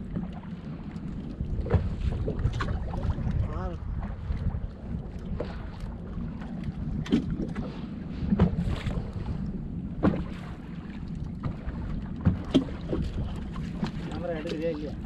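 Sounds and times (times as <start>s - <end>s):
boat motor rumbling: 0.0s - 15.0s
wind buffeting microphone: 0.0s - 15.0s.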